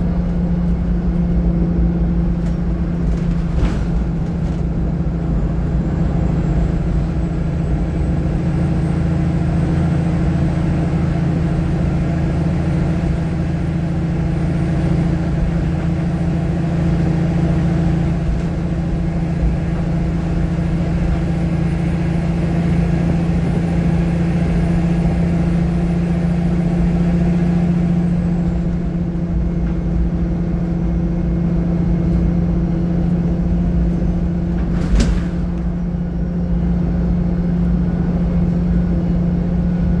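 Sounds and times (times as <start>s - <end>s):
bus engine humming: 0.0s - 40.0s.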